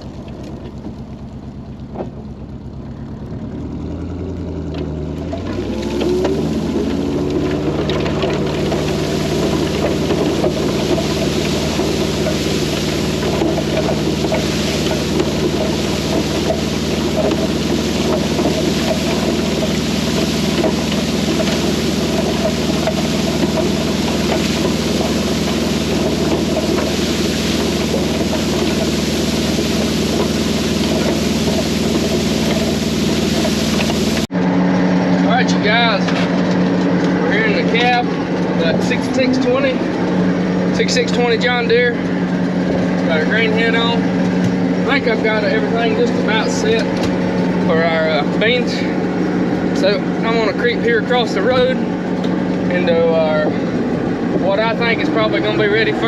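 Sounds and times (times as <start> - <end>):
engine running under load: 0.0 - 56.0.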